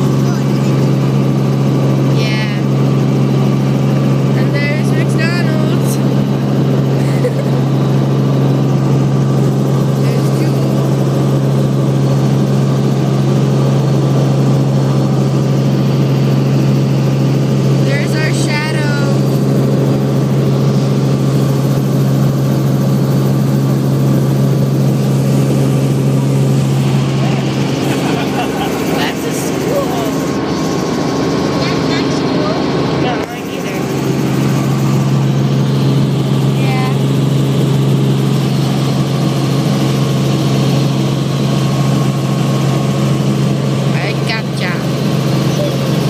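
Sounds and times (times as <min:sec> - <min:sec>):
helicopter engine and rotor drone: 0:00.0 - 0:46.0.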